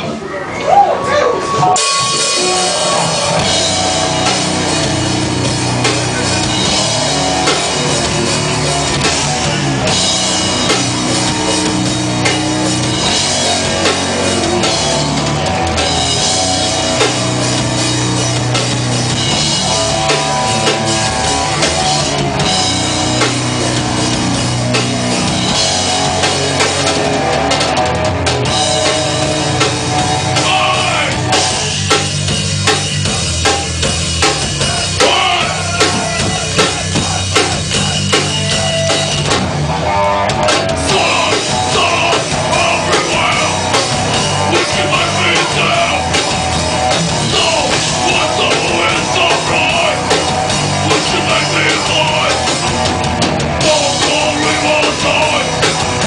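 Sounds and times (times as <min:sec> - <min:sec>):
hard rock music with drums: 0:01.3 - 0:56.0.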